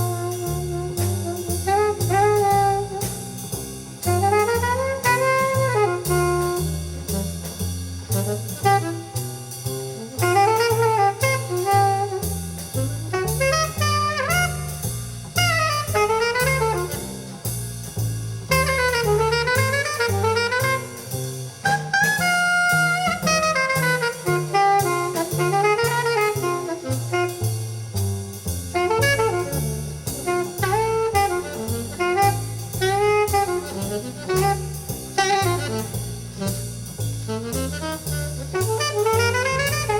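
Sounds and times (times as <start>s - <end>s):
saxophone melody: 0.0s - 3.4s, 4.1s - 6.9s, 8.2s - 9.2s, 10.0s - 14.8s, 15.4s - 17.2s, 18.5s - 27.7s, 28.7s - 39.9s
bass line: 0.0s - 39.9s
drum kit: 0.0s - 39.9s.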